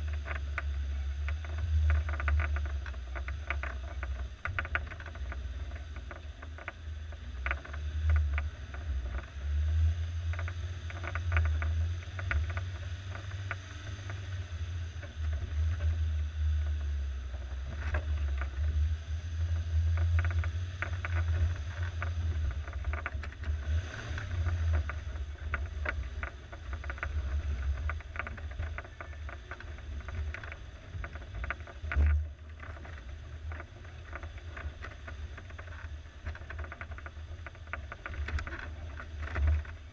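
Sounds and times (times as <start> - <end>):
sharp clicks and rattles: 0.0 - 9.5, 10.2 - 39.9
engine droning: 0.0 - 39.9.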